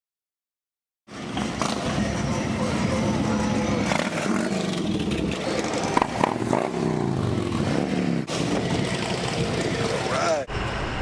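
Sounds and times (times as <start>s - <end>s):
outdoor background noise: 1.1s - 11.0s.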